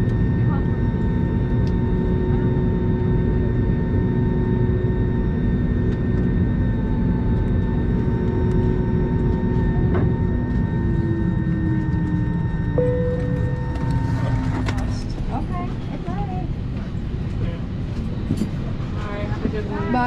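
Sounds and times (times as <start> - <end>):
low cabin rumble: 0.0 - 20.0
steady whining tones: 0.0 - 20.0.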